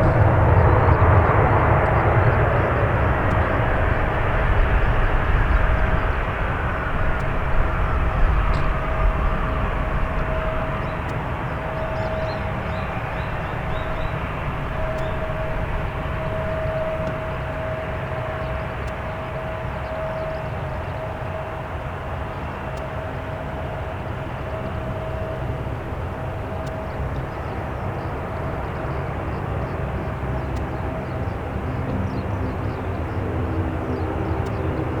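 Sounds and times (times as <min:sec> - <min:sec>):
jet engine rumble: 0:00.0 - 0:35.0
jet engine whine: 0:00.0 - 0:35.0.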